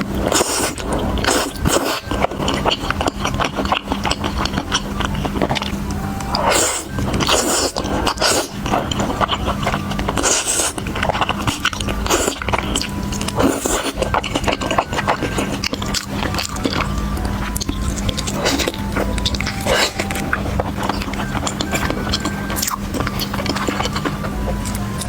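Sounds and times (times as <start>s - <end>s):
background music: 0.0s - 25.0s
chewing and biting food: 0.0s - 25.0s.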